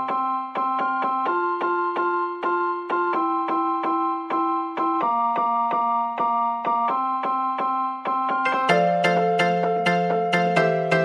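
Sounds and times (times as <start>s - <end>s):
keyboard tune: 0.0s - 11.0s.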